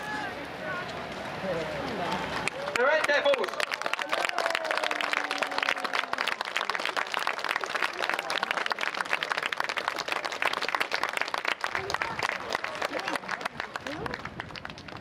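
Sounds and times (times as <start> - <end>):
crowd applauding: 1.5 - 15.0.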